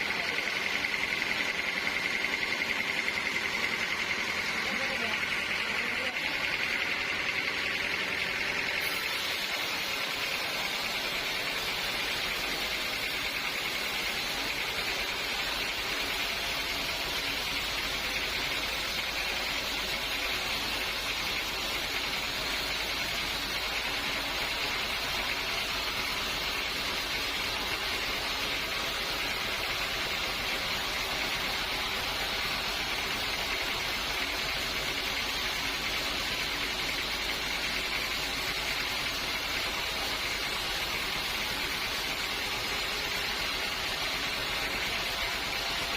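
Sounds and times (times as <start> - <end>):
sawmill machinery hissing: 0.0 - 45.9.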